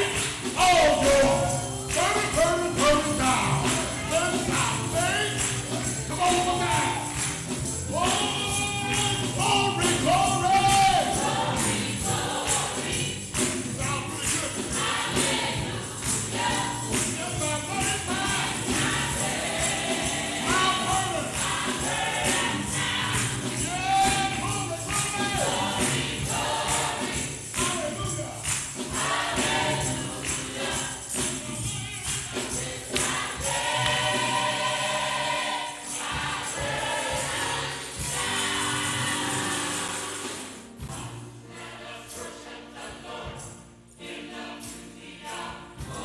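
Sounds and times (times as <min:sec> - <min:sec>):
gospel choir and congregation singing: 0:00.0 - 0:46.0
tambourine shaking: 0:00.0 - 0:46.0.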